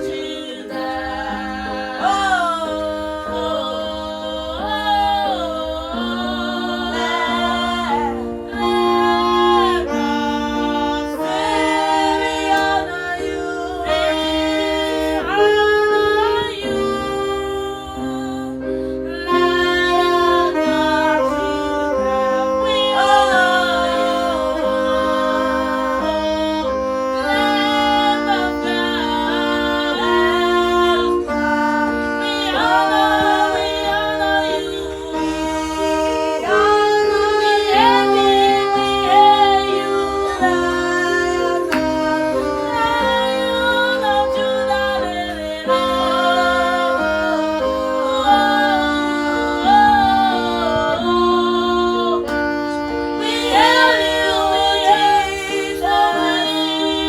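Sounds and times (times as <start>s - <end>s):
person singing: 0.0s - 57.0s
sustained instrumental chords: 0.0s - 57.0s.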